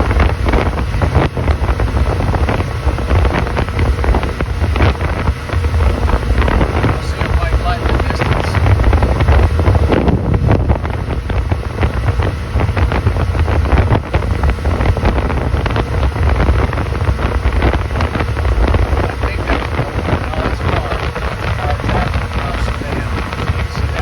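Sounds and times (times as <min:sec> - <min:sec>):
motorboat engine rumble: 0:00.0 - 0:24.0
wind buffeting microphone: 0:00.0 - 0:24.0.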